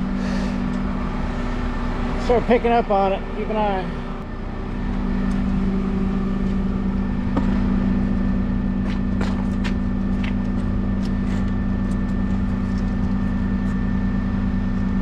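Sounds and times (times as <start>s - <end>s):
lifting machine engine drone: 0.0s - 15.0s.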